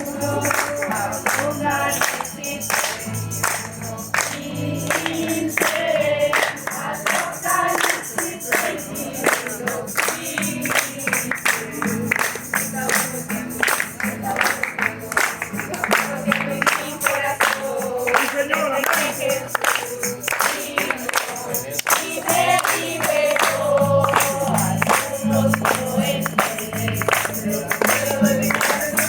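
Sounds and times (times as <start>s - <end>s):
group singing gospel chorus: 0.0s - 29.0s.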